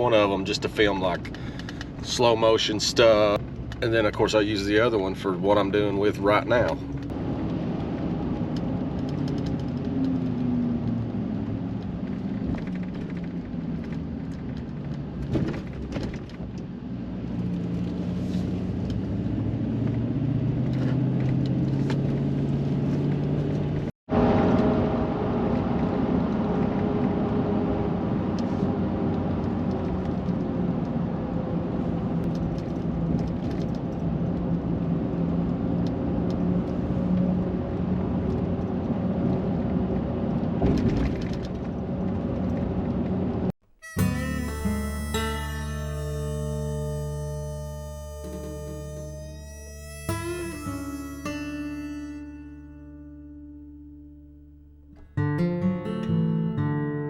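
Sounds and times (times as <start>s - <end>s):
pickup truck engine: 0.0s - 53.6s
road noise: 0.0s - 56.3s.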